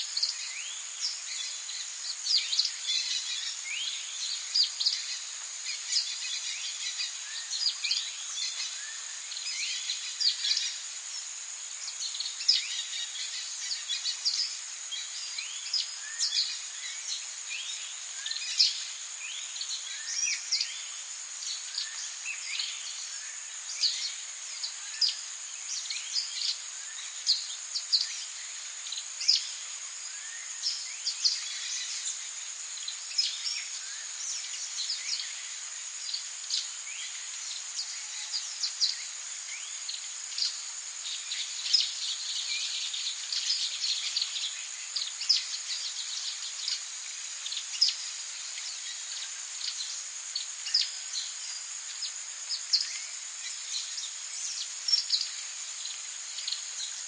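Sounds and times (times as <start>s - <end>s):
birds and insects chirping: 0.0s - 57.0s.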